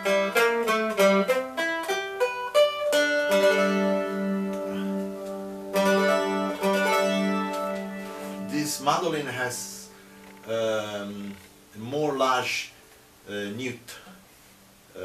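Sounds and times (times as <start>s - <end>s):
mandolin picked notes and tremolo: 0.0s - 12.4s.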